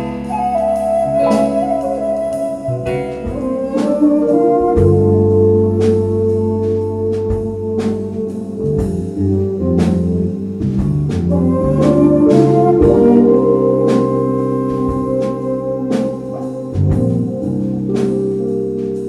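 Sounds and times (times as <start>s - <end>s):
bass line: 0.0s - 19.0s
drum kit hits: 0.0s - 19.0s
organ-style keyboard chords: 0.0s - 19.0s.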